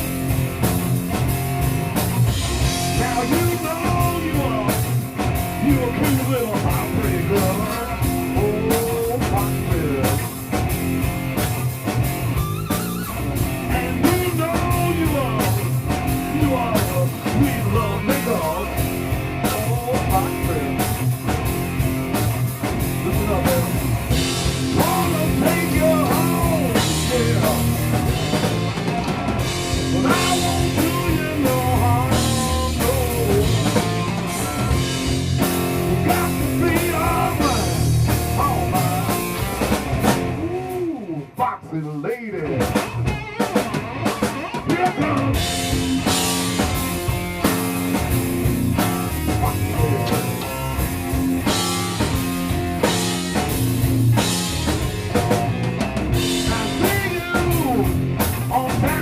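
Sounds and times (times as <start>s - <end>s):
electric guitar lead: 0.0s - 41.4s, 42.4s - 59.0s
drum kit beat: 0.0s - 59.0s.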